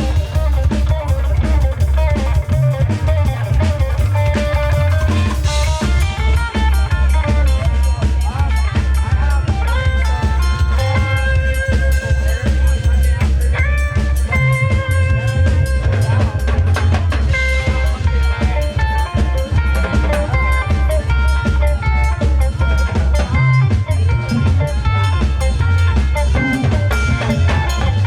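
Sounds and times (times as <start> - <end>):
drum kit beat with rimshots: 0.0 - 28.0
electric bass: 0.0 - 28.0
guitar holding notes: 0.0 - 28.0.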